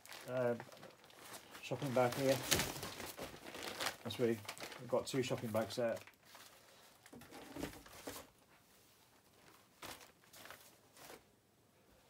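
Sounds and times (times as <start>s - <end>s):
shopping bags rustling: 0.0s - 8.3s, 9.3s - 11.3s.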